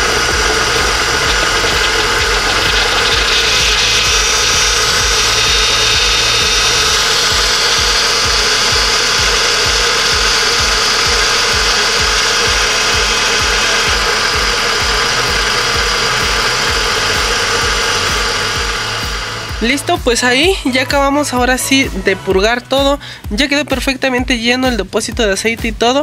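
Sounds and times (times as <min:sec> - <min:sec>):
power steering pump whirring: 0:00.0 - 0:22.6
car engine running: 0:00.0 - 0:24.3.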